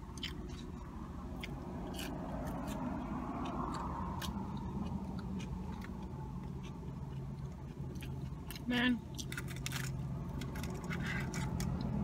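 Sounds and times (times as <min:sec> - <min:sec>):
chewing fried food: 0:00.0 - 0:12.0.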